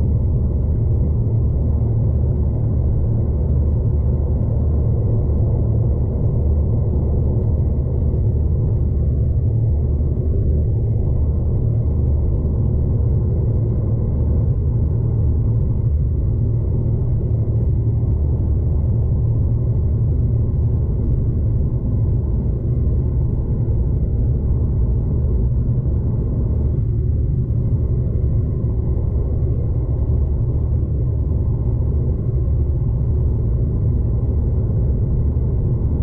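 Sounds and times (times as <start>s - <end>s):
passenger train rumble inside carriage: 0.0s - 36.0s.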